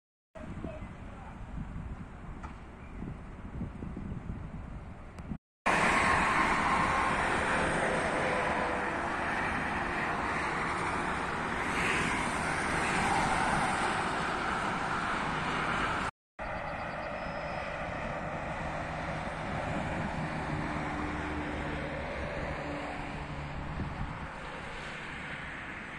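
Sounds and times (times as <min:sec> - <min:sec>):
expressway traffic: 0:00.4 - 0:25.9.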